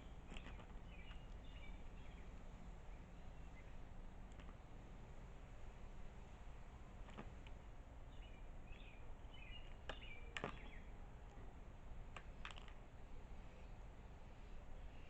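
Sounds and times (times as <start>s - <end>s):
small birds chirping: 0.0s - 4.8s, 7.0s - 15.0s.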